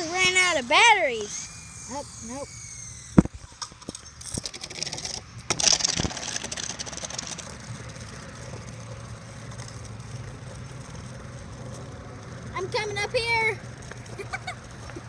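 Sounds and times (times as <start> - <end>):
toy helicopter motor whirring: 0.0 - 15.0.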